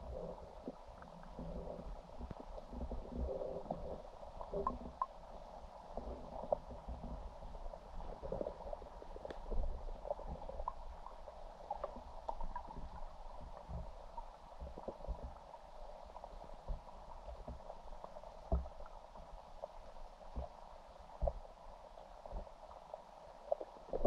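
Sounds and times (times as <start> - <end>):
muffled underwater rumble: 0.0 - 24.0.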